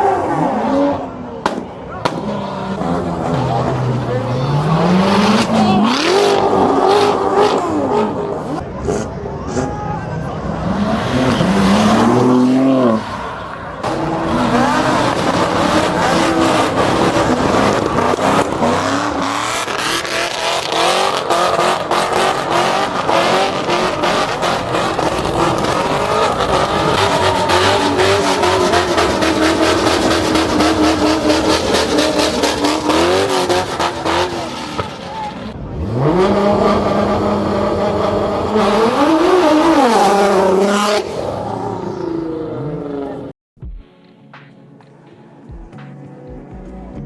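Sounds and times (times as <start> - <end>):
car engine revving: 0.0 - 43.3
tires squealing: 0.0 - 43.3.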